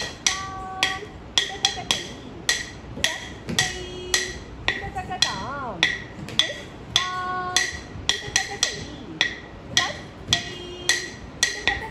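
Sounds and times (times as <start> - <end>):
stick striking a wooden block: 0.0 - 11.9.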